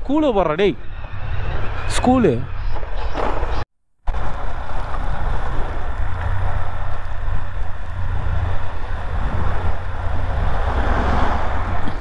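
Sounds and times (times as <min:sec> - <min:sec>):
wind rumble on microphone: 0:00.0 - 0:12.0
motorcycle engine and road noise: 0:00.6 - 0:12.0.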